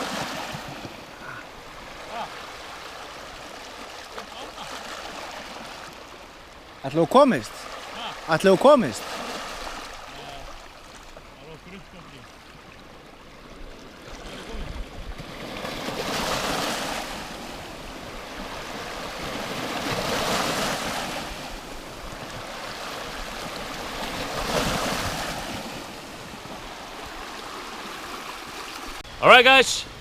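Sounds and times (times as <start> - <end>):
sea waves washing: 0.0 - 30.0.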